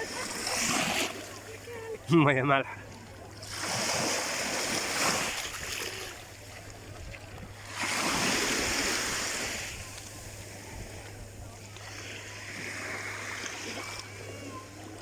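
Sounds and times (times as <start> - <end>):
sea waves washing in: 0.0 - 2.6, 3.2 - 15.0.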